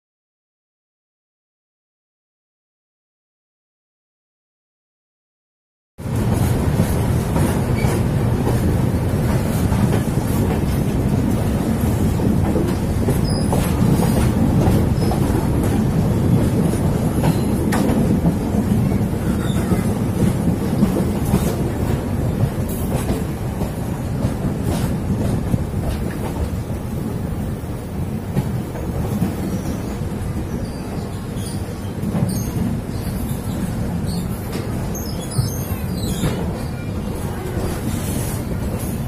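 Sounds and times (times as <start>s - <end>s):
train wheels rumbling on rail: 6.0s - 39.0s.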